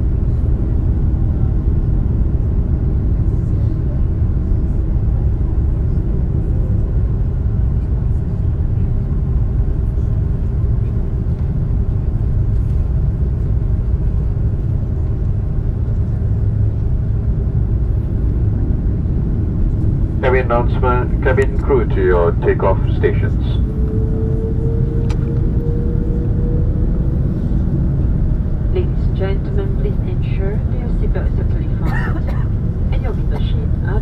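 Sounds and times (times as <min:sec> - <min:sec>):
airplane engines rumbling while taxiing: 0:00.0 - 0:34.0.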